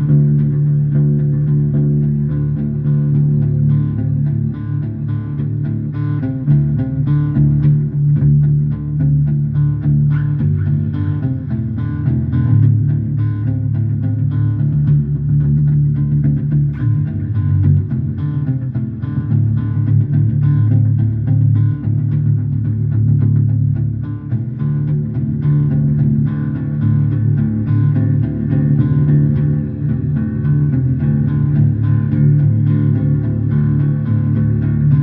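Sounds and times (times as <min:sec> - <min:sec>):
electric bass playing: 0:00.0 - 0:35.0
guitar backing track: 0:00.0 - 0:35.0.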